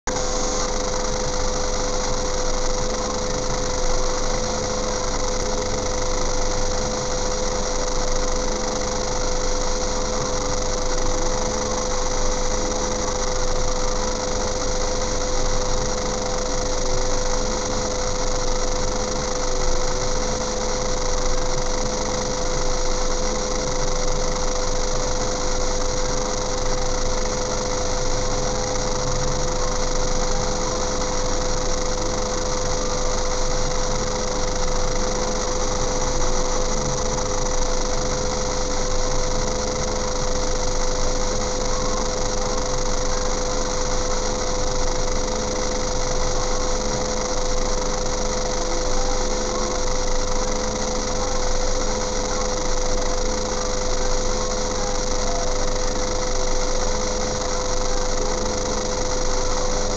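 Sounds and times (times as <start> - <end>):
constant whine: 0.0 - 59.9
car engine idling: 0.1 - 59.9.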